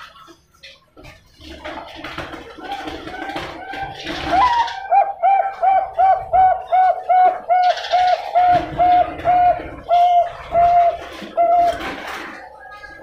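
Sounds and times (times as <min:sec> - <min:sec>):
dove cooing: 0:01.4 - 0:13.0.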